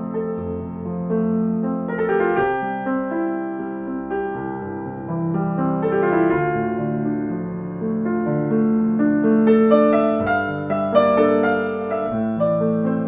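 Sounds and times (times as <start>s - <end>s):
slow solo piano music: 0.0s - 13.0s.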